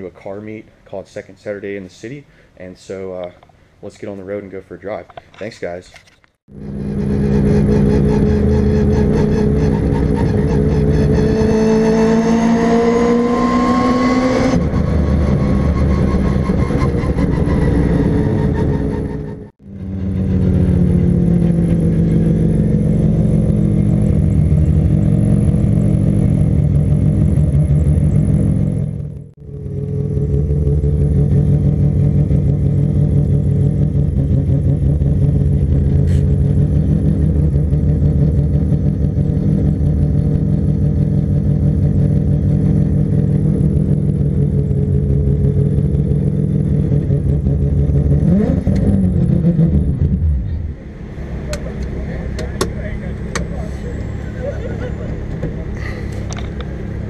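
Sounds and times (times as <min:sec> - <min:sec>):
rotary car engine running: 0:06.5 - 0:57.0.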